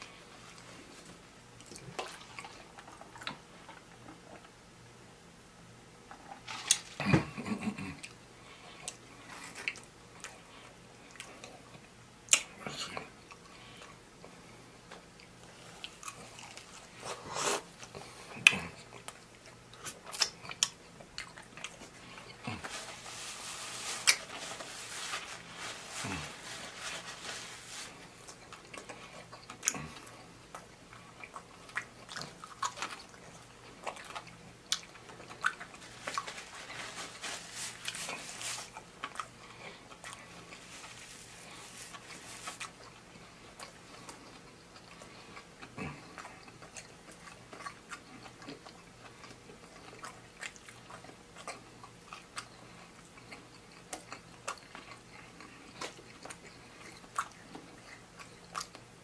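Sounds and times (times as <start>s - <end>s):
chewing fried chicken: 0.0s - 4.6s, 6.1s - 59.0s.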